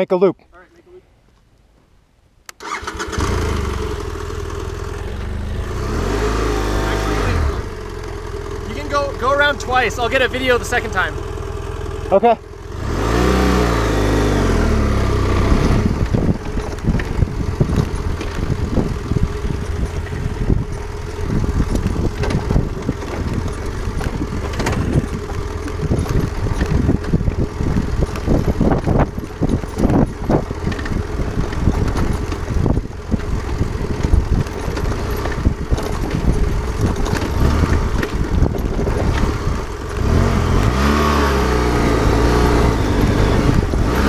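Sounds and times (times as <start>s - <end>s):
motorcycle engine running: 2.6s - 44.0s
knocks and rattles over rough ground: 3.6s - 44.0s.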